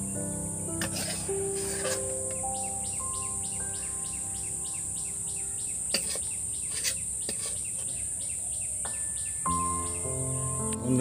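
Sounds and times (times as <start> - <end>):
constant high hiss: 0.0 - 11.0
crickets chirping: 0.0 - 11.0
soft held music notes: 0.0 - 11.0.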